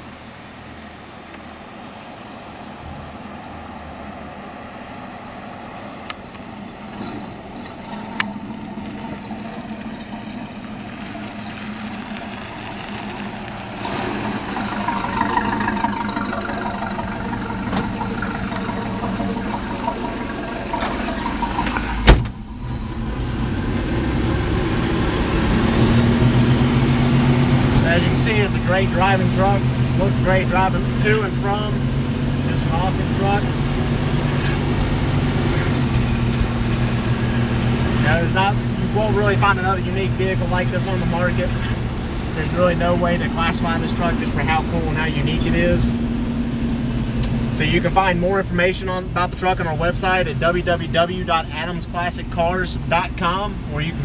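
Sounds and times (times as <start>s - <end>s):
pickup truck engine driving: 0.0s - 54.0s.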